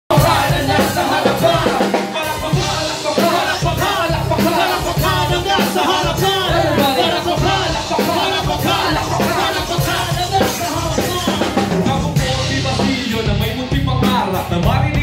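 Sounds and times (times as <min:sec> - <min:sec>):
live band drums and bass: 0:00.1 - 0:15.0
person rapping: 0:00.1 - 0:15.0.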